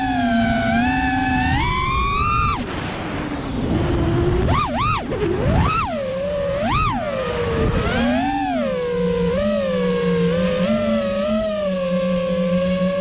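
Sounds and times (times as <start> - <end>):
prop wash and air noise: 0.0 - 13.0
quadcopter motors whining: 0.0 - 13.0.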